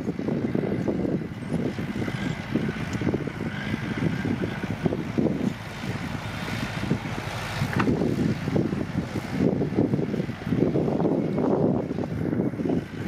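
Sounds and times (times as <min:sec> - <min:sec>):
bulldozer diesel engine under load: 0:00.0 - 0:13.0.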